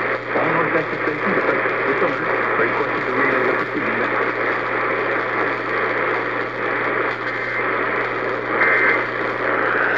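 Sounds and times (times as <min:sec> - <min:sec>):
radio static hiss: 0:00.0 - 0:09.9.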